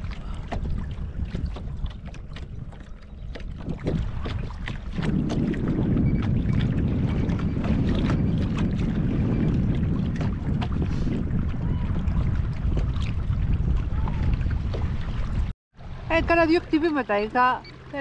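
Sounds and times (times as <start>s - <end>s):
water slapping against hull: 0.0s - 18.0s
wind buffeting microphone: 0.0s - 18.0s.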